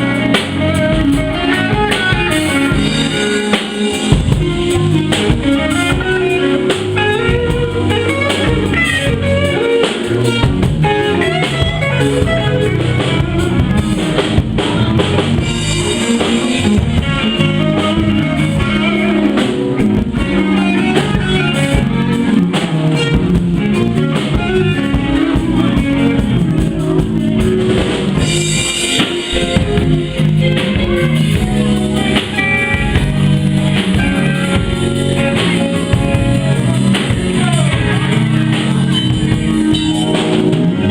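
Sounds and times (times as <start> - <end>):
blues guitar: 0.0 - 40.9
drum kit beat: 0.0 - 40.9.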